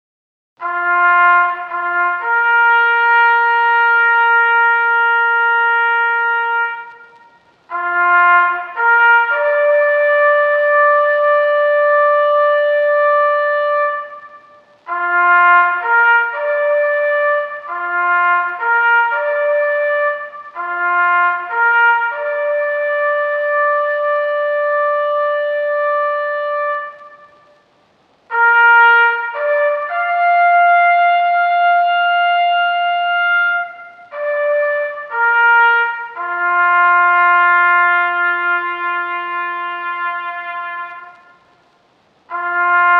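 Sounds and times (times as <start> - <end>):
trumpet playing slow phrases: 0.6 - 41.7, 42.3 - 42.9.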